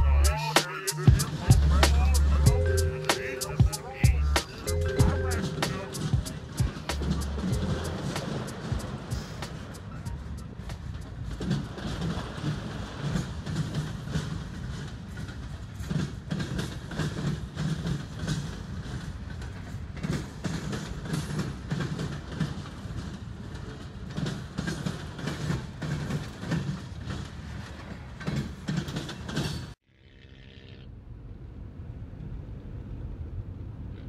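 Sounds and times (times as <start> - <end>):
low train rumble: 0.0 - 29.8, 30.9 - 34.0
train wheels clattering over track: 0.0 - 29.8.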